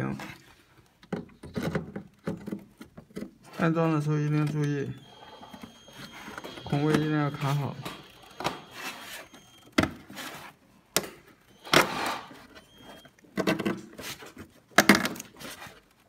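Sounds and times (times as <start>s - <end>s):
plastic scraping rubs: 1.3s - 10.6s, 11.5s - 16.0s.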